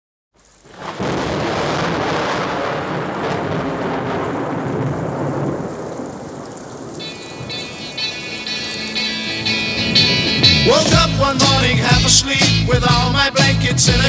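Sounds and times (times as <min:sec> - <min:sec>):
heavy rain: 0:00.4 - 0:14.0
thunder rumbling: 0:00.4 - 0:14.0.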